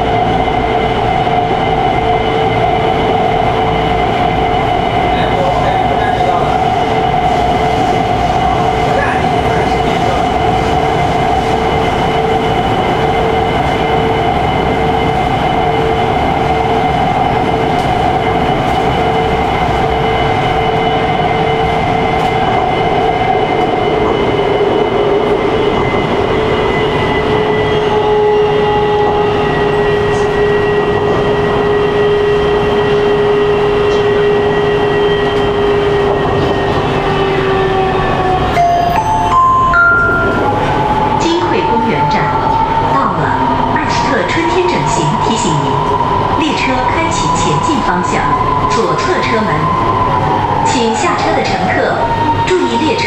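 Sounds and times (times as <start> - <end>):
train wheels rumbling on rail: 0.0 - 38.6, 40.0 - 53.0.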